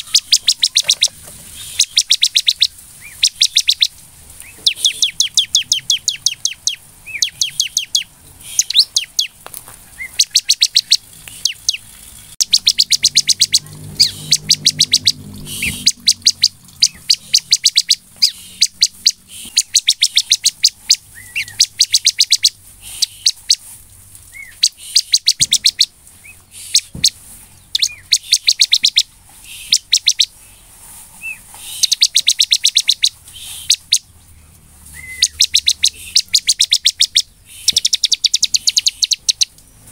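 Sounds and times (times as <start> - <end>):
bird rapid sharp ticking notes: 0.0 - 9.4, 10.0 - 23.6, 24.4 - 25.9, 26.6 - 30.4, 31.6 - 34.1, 35.0 - 39.9
short rising bird chirps: 0.0 - 9.4, 10.0 - 23.6, 24.4 - 30.4, 31.2 - 34.1, 34.9 - 39.6.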